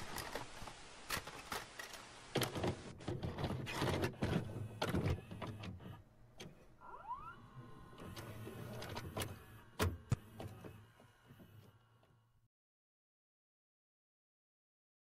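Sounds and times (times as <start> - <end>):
tape mechanism clicking and whirring: 0.0 - 12.3.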